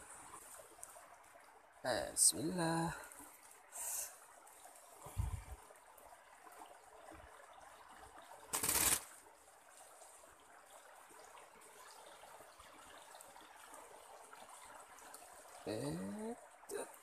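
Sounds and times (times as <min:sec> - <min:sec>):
creek water trickling: 0:00.0 - 0:17.0.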